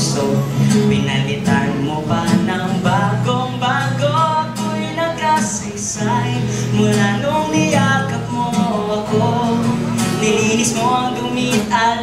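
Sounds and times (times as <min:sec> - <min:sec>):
acoustic guitar strumming: 0:00.0 - 0:12.0
man singing into microphone: 0:00.0 - 0:12.0.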